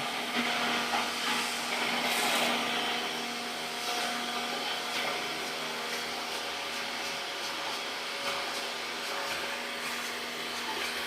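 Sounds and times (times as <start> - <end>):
electric air blower whirring: 0.0 - 11.0.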